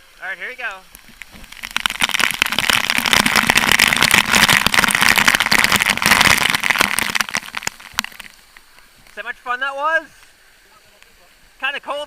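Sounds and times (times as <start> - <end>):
waterfall splashing on camera: 0.0 - 12.0.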